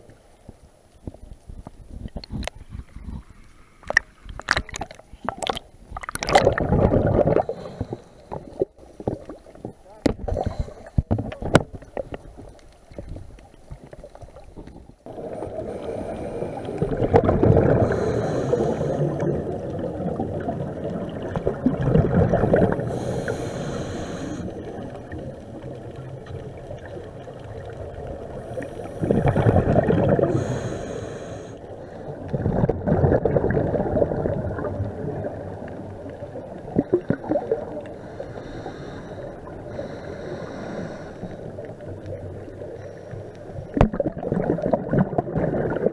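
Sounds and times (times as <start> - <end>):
underwater bubbles gurgling: 0.0 - 45.9.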